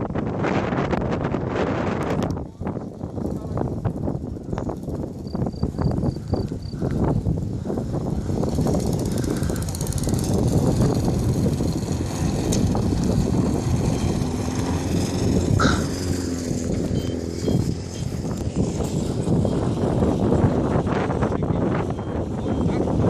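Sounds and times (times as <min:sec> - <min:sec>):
wind blowing on microphone: 0:00.0 - 0:23.0.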